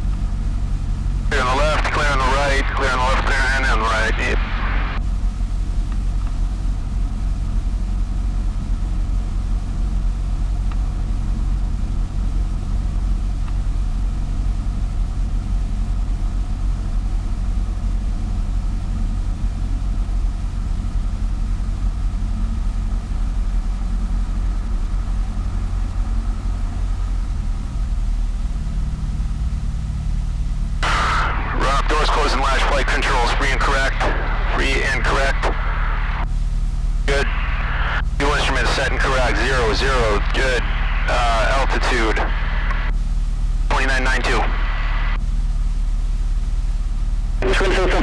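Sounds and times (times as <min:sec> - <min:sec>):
light aircraft engine running: 0:00.0 - 0:48.0.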